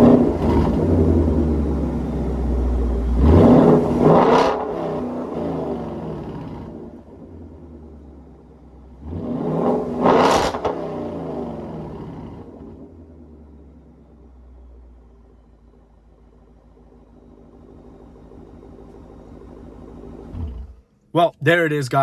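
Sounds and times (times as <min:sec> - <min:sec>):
car engine accelerating hard: 0:00.0 - 0:08.2, 0:08.9 - 0:14.9, 0:17.4 - 0:20.9.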